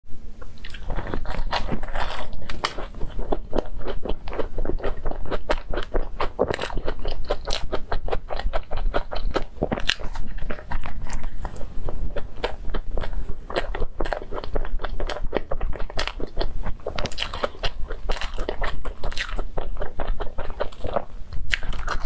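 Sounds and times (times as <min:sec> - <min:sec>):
crunchy chewing: 0:00.4 - 0:22.0.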